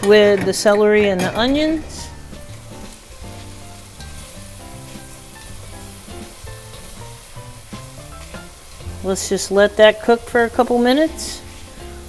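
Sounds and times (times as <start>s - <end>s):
background music: 0.0s - 12.0s
vegetables sizzling in butter: 0.0s - 12.0s.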